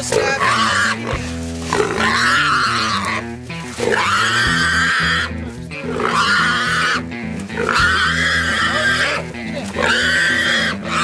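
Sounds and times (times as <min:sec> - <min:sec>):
background music: 0:00.0 - 0:11.0
hog squealing: 0:00.0 - 0:11.0.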